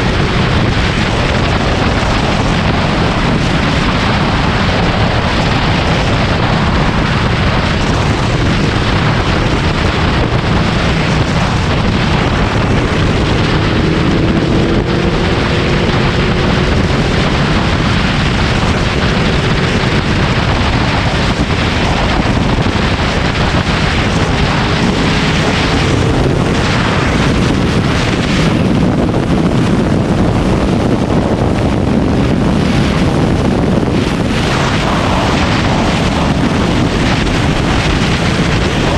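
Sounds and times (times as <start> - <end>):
motorcycle engine: 0.0 - 38.9
wind noise on microphone: 0.0 - 38.9.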